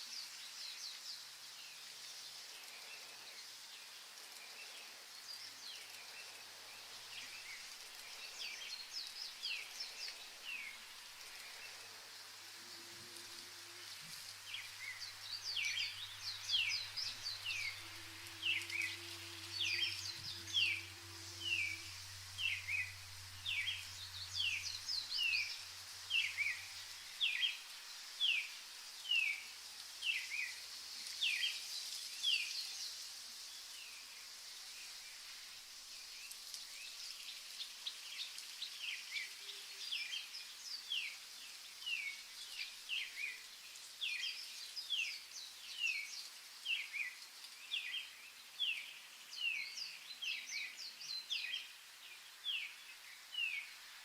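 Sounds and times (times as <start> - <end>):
small birds chirping: 0.0 - 54.0
soft outdoor hiss: 0.0 - 54.0.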